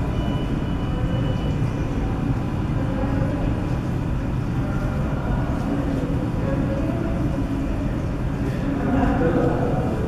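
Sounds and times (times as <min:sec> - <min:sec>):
subway train rumbling: 0:00.0 - 0:10.0.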